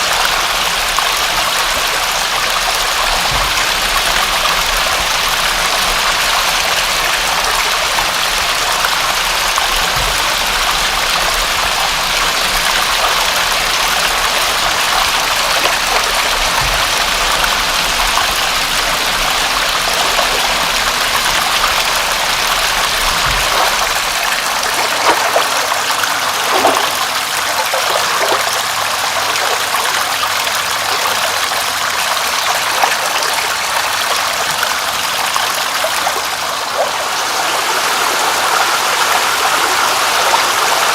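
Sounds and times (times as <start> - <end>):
rushing water: 0.0 - 40.9
water splashes and drips: 0.0 - 40.9.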